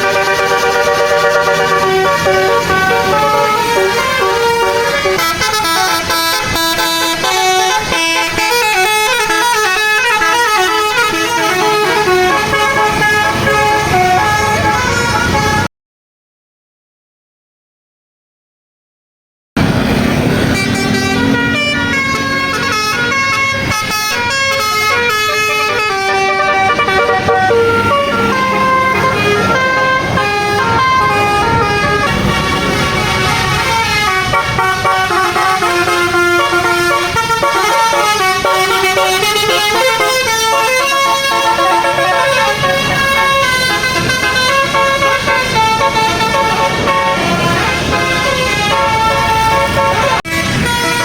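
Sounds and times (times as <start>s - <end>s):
multi-tone bus horn melody: 0.0s - 15.7s, 19.6s - 51.0s.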